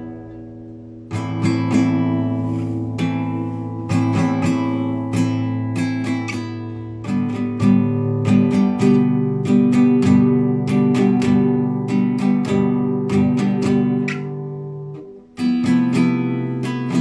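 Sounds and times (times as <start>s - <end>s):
classical guitar playing: 0.0s - 17.0s.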